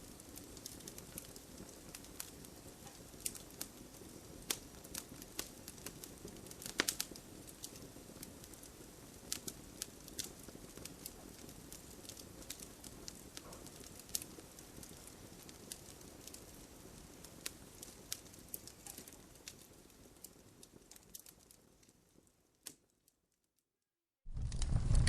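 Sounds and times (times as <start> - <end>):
fire crackling and popping: 0.0 - 23.2, 24.2 - 25.0.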